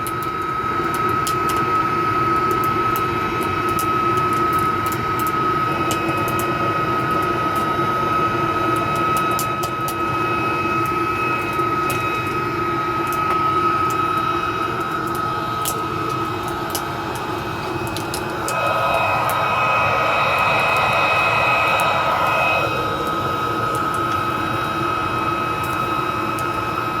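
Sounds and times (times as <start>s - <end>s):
furnace roaring with high whine: 0.0s - 27.0s.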